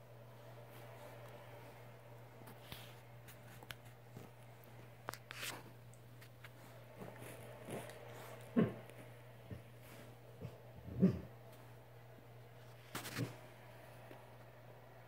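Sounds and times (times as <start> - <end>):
bedding rustling: 0.0 - 14.6
steady low hum: 0.0 - 15.0.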